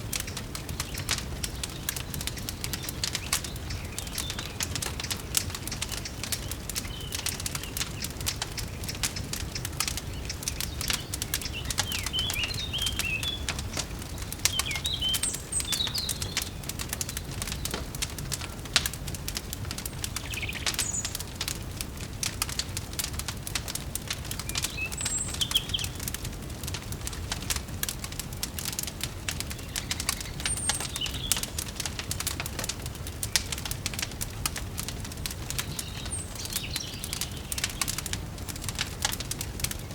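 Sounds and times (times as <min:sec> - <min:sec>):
small birds chirping: 0:00.0 - 0:39.9
wood fire crackling and popping: 0:00.0 - 0:39.9.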